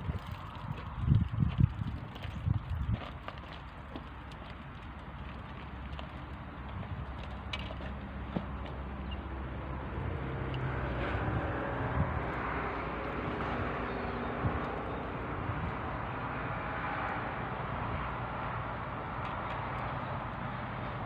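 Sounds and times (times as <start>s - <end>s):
distant engine drone: 0.0s - 21.0s.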